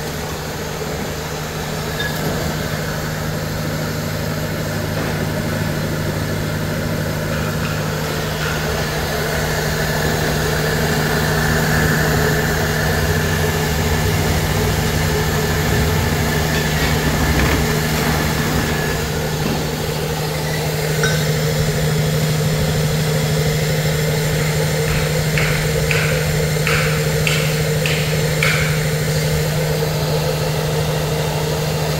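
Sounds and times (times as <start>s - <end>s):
flour mill humming: 0.0s - 31.9s.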